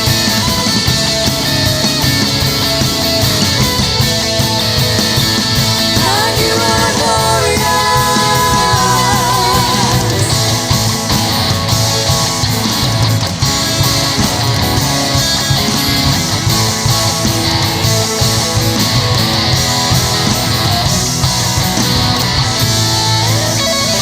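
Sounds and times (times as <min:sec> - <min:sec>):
electric guitar: 0:00.0 - 0:24.0
rock band playing: 0:00.0 - 0:24.0.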